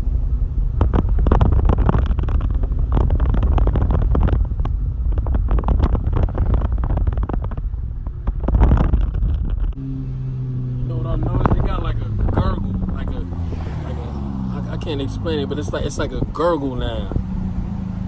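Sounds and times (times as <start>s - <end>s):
car exhaust rumbling and gurgling: 0.0s - 18.0s.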